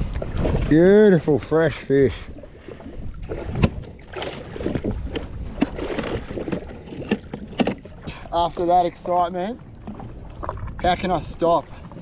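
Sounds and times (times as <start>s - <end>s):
water and wind rumble: 0.0s - 12.0s.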